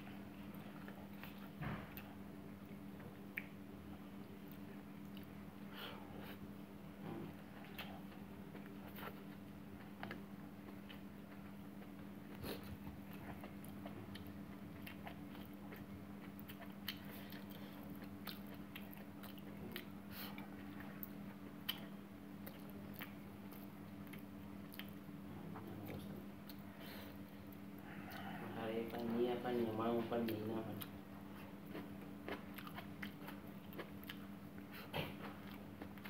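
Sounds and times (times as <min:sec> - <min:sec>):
man chewing and mouth sounds: 0:00.0 - 0:36.0.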